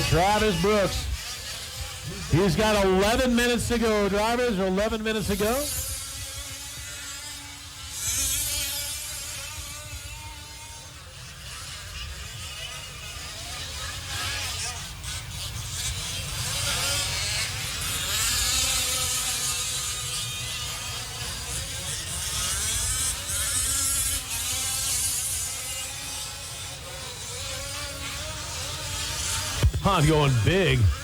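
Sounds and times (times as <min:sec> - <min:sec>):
rc truck engines buzzing: 0:00.0 - 0:31.0.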